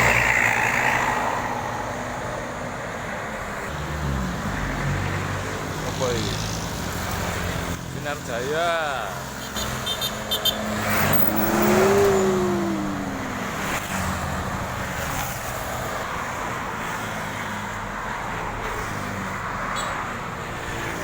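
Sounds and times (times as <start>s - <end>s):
bus engine passing: 0.0s - 19.5s
traffic rumble: 0.0s - 21.0s.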